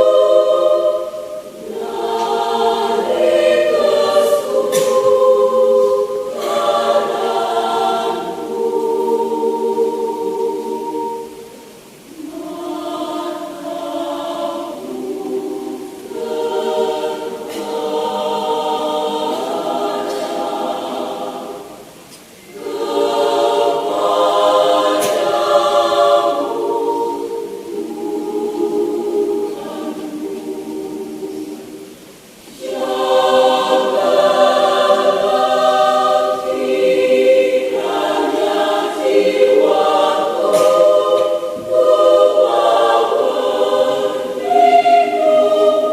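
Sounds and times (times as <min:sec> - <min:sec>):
church choir singing: 0:00.0 - 0:45.9.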